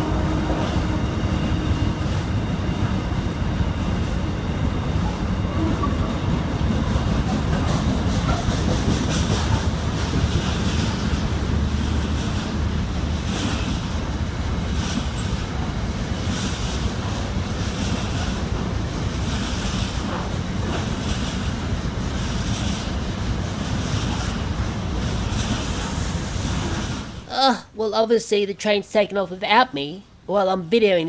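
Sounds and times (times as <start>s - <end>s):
freight train rolling past: 0.0s - 27.3s.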